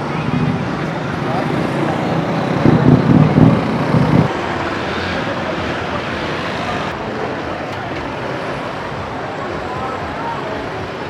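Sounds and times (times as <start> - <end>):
street traffic roar: 0.0 - 11.0.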